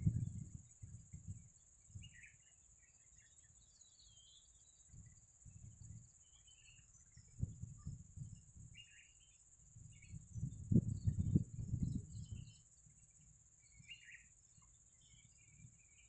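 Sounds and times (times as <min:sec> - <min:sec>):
bird chirps: 0:00.0 - 0:16.0
insect drone: 0:00.0 - 0:16.0.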